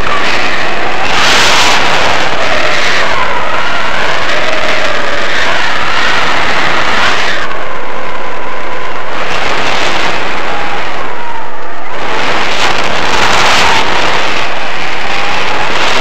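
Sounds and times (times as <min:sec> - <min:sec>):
wind blasting across microphone: 0:00.0 - 0:16.0.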